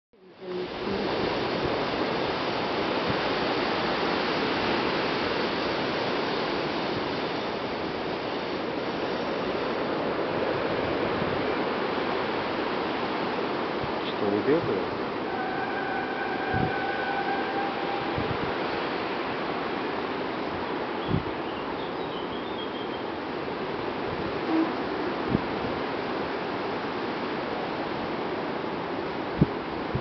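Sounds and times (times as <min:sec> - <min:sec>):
waves breaking on shore: 0:00.2 - 0:30.0.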